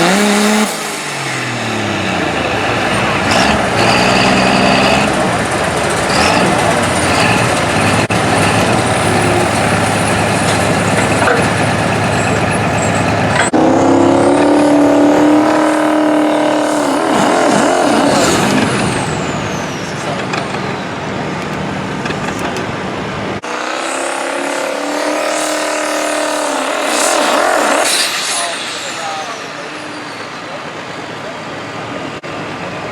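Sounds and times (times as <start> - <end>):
pulling truck engine revving: 0.0 - 32.9.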